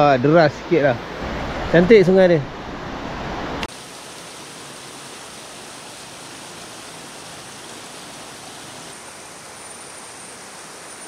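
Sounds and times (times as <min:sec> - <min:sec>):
river water rushing: 0:00.2 - 0:11.0.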